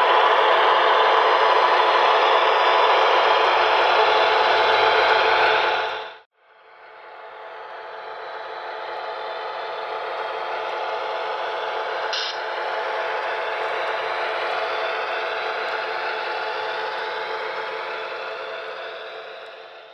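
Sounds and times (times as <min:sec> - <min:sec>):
model locomotive running: 0:00.0 - 0:19.9.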